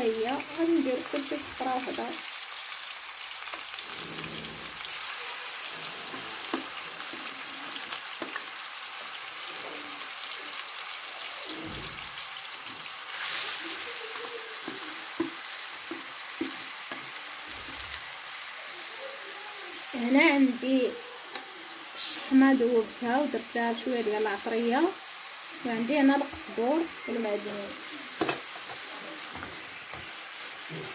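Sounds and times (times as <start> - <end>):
vegetables sizzling in hot oil: 0.0 - 30.9.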